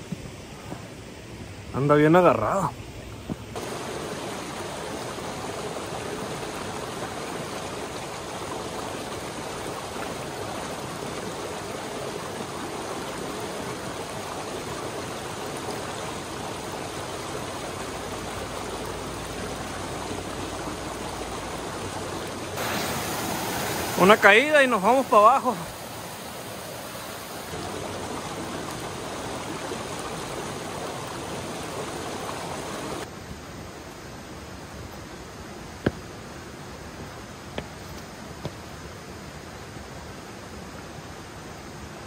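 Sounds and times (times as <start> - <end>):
creek water rushing over rocks: 0.0 - 42.0.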